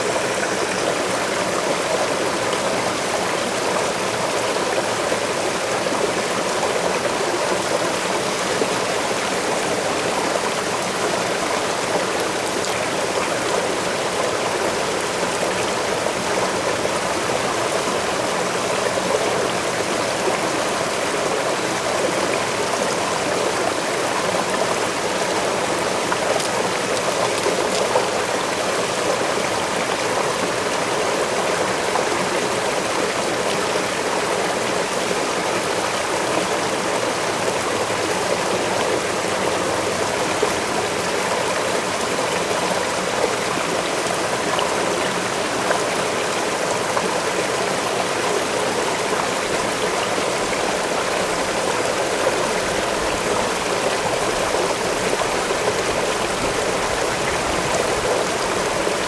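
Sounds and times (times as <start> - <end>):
waterfall and stream rushing: 0.0 - 59.0.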